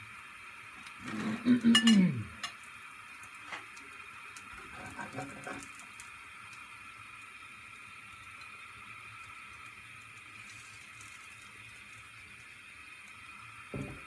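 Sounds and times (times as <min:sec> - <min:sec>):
gas burner and egg hissing: 0:00.0 - 0:14.0.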